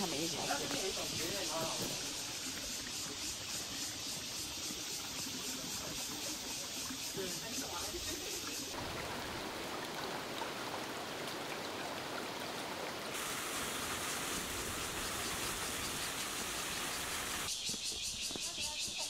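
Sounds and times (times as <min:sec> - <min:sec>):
water rushing in channel: 0:00.0 - 0:03.4, 0:04.2 - 0:17.5.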